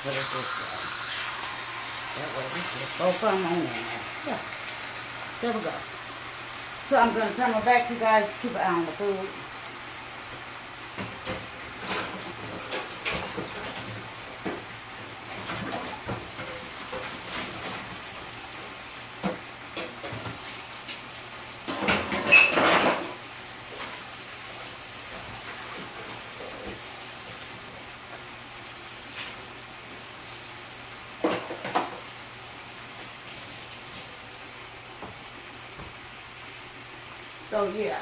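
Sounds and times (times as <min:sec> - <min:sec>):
food sizzling in pans: 0:00.0 - 0:38.0.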